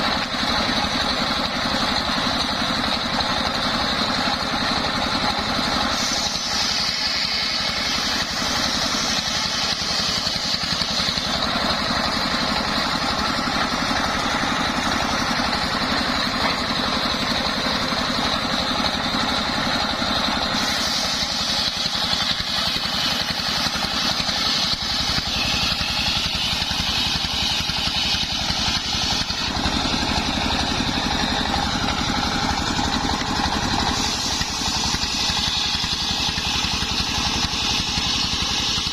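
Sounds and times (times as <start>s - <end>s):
engine rumble: 0.0s - 38.9s
circular saw whine: 3.6s - 38.9s.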